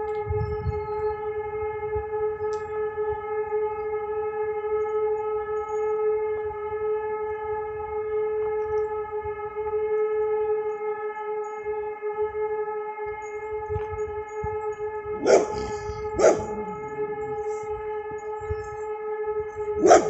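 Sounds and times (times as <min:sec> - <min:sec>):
siren steady tone: 0:00.0 - 0:20.0.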